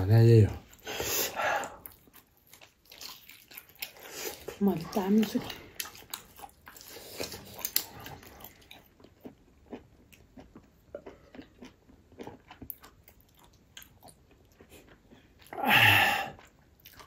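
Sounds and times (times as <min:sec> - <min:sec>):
person chewing food: 0:00.5 - 0:17.0.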